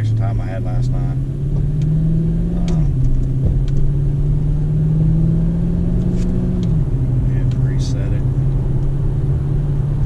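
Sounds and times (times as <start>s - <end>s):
car engine droning at cruise: 0.0s - 10.0s.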